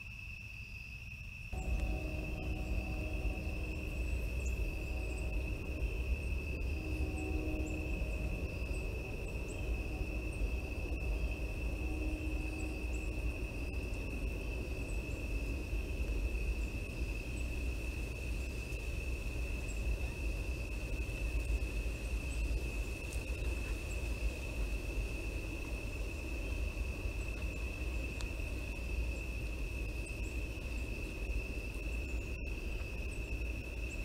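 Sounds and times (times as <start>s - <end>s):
constant low rumble: 0.0s - 34.0s
insect trilling high buzz: 1.5s - 34.0s.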